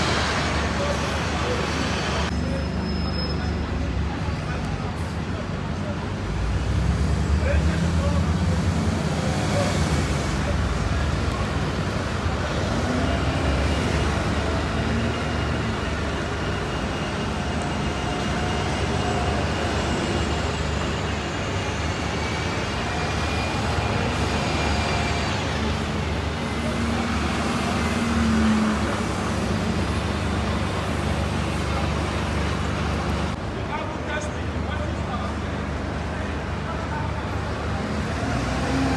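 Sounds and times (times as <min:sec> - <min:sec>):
bus diesel engines running: 0:00.0 - 0:38.9
road traffic noise: 0:00.0 - 0:38.9
tyres on tarmac: 0:00.0 - 0:38.9.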